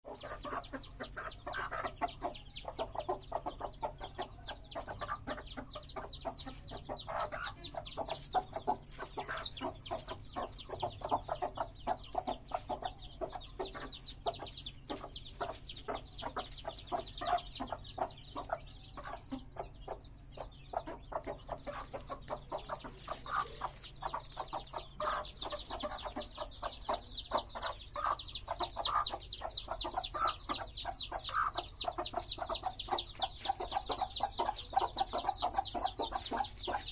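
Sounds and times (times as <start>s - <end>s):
chicks peeping: 0.0s - 36.9s
hen clucking: 0.0s - 36.9s.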